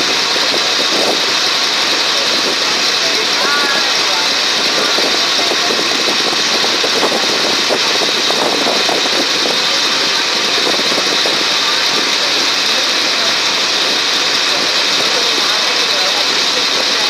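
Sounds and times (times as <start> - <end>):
ferry engine drone: 0.0 - 17.0.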